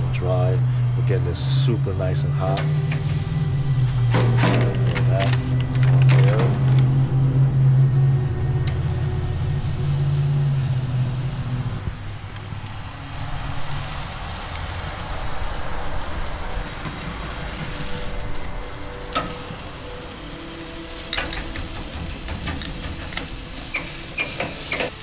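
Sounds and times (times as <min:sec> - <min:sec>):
steak sizzling on a grill: 0:02.4 - 0:25.0.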